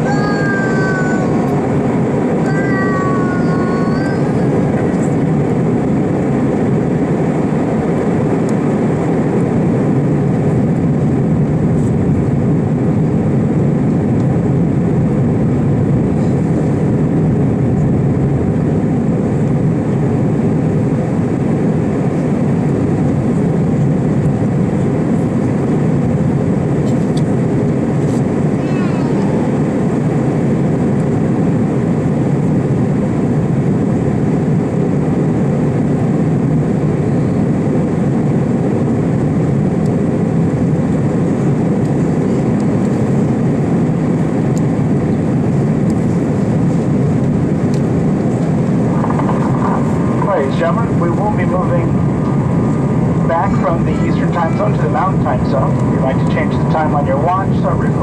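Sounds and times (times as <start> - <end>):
airliner engines and airflow rumble: 0.0 - 58.0.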